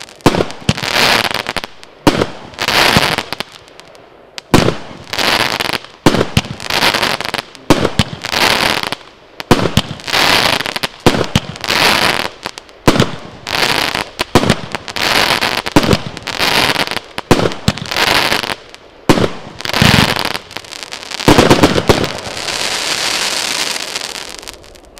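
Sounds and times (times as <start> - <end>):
firework bangs: 0.0 - 3.6, 4.4 - 24.9
hissing crackle of firework stars: 0.0 - 24.9.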